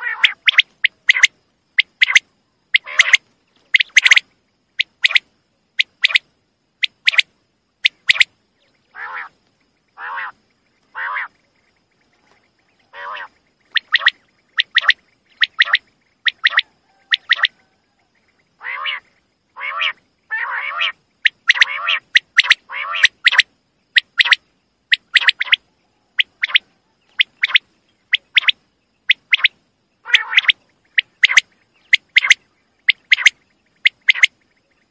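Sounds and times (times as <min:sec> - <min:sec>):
harsh low quail calls: 0:00.0 - 0:04.2, 0:06.8 - 0:34.9
quail calling: 0:00.0 - 0:06.2, 0:06.8 - 0:09.4, 0:10.0 - 0:34.9.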